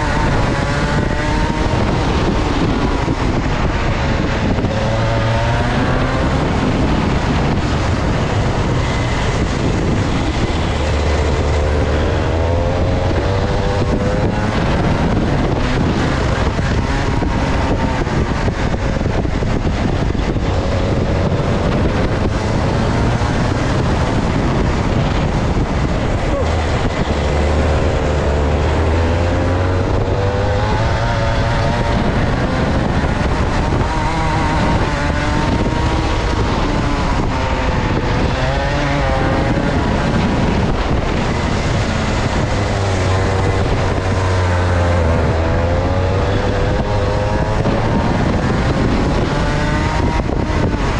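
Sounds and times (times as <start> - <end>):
go-kart engine at speed: 0.0 - 50.9
wind noise on microphone: 0.0 - 50.9.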